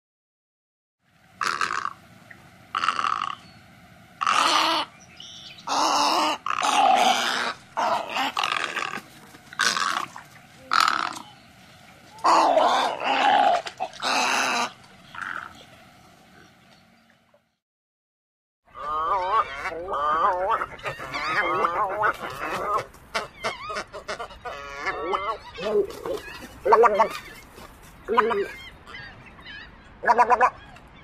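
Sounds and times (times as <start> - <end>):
egret croaking calls: 1.3 - 16.6, 18.7 - 31.0.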